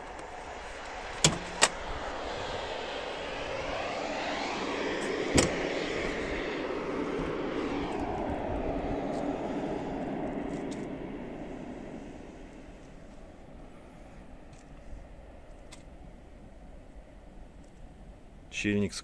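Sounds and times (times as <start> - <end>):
broad rushing noise: 0.0 - 16.5.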